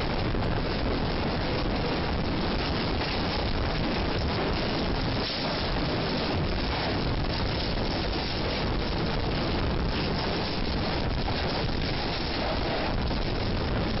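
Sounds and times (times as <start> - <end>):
strong wind rushing: 0.0 - 14.0.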